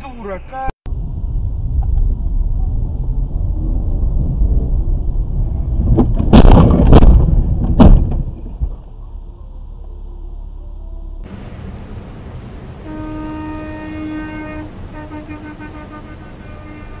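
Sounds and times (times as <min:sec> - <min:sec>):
engine and tyres rumbling on snow: 0:00.9 - 0:17.0.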